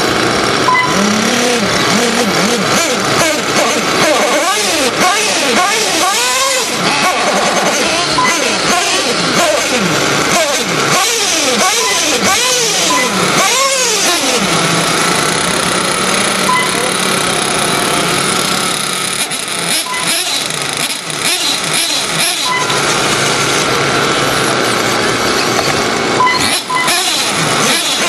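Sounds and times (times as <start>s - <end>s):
rc truck motors whining: 0.0s - 28.0s.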